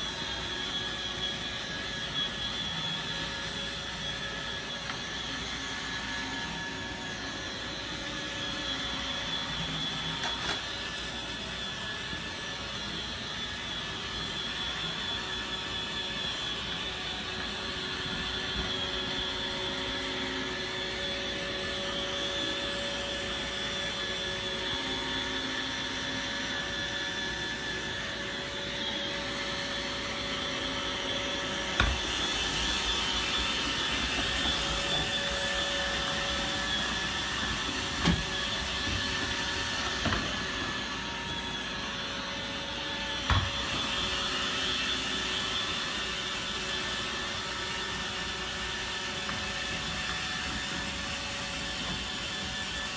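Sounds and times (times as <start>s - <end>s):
vacuum cleaner motor whir: 0.0s - 52.9s.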